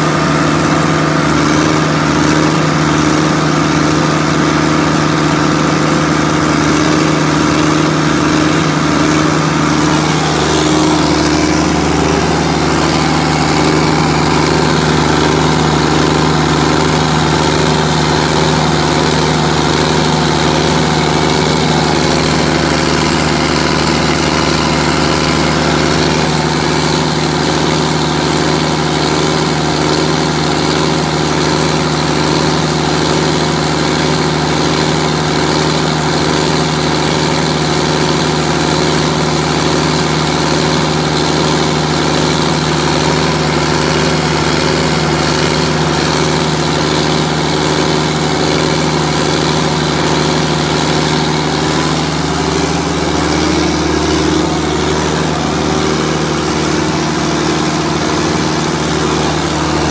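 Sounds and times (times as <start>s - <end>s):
diesel generator running: 0.0s - 59.9s.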